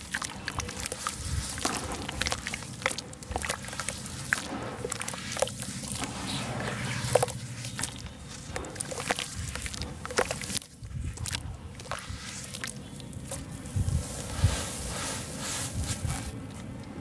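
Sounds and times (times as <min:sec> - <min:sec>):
hands squelching in wet slurry: 0:00.0 - 0:16.4
wet splats: 0:00.0 - 0:16.4.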